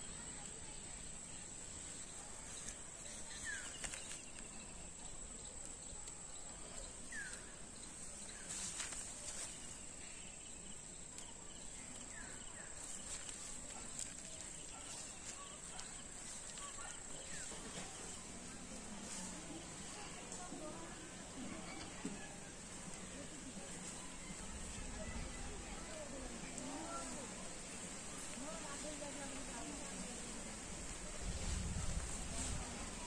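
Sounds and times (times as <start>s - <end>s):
plants rustling and pods cut: 0.1s - 21.5s, 22.8s - 33.0s.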